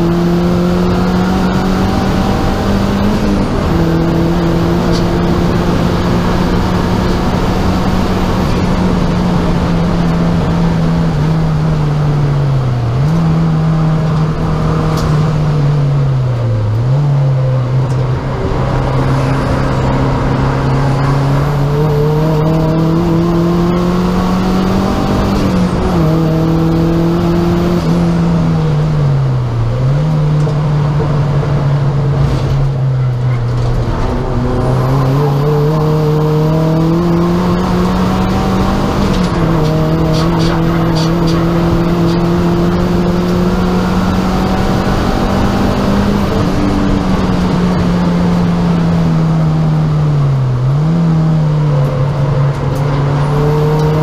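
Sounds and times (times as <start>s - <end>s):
road and wind noise: 0.0s - 54.0s
turbocharged car engine revving: 0.0s - 54.0s.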